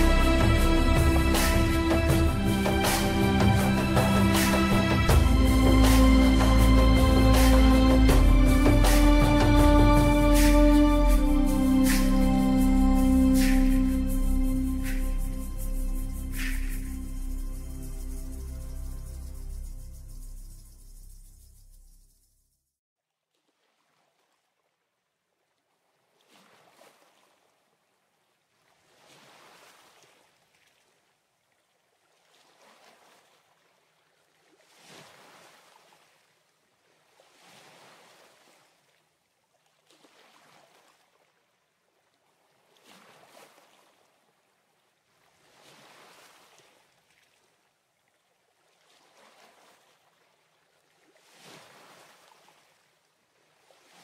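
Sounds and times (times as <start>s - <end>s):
small waves washing onto beach: 0.0s - 19.6s, 25.8s - 54.0s.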